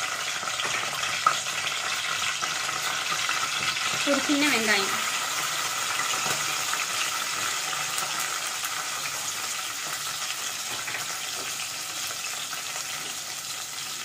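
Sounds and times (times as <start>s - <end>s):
shallots sizzling in hot oil: 0.0s - 14.0s.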